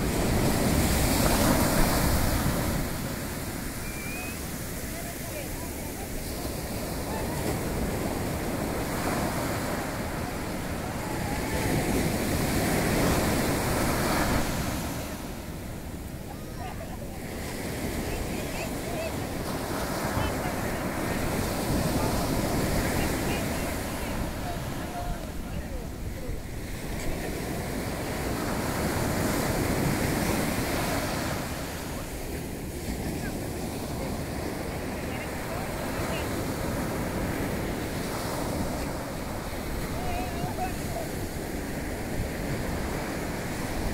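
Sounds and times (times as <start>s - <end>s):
ocean surf on sandy beach: 0.0s - 43.9s.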